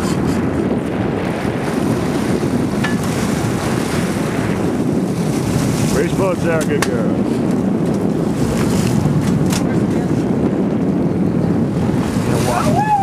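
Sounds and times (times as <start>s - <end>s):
boat engine running: 0.0s - 13.0s
water churning: 0.0s - 13.0s
wind noise on microphone: 0.0s - 13.0s.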